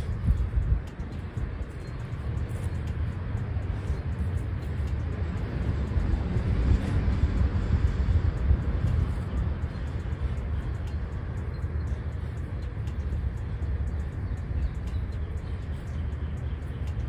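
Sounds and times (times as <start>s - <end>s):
loud unsteady low rumble: 0.0s - 17.0s.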